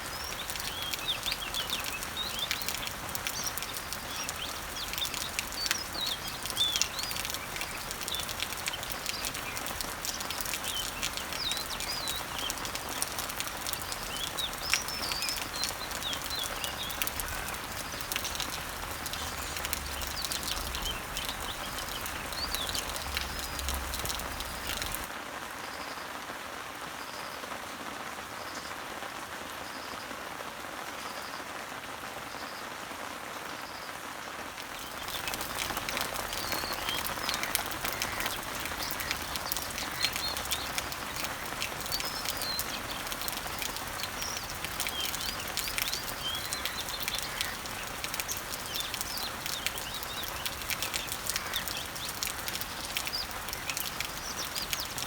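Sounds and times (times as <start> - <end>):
small birds chirping: 0.0 - 25.1, 34.6 - 55.0
rain falling on leaves: 0.0 - 55.0.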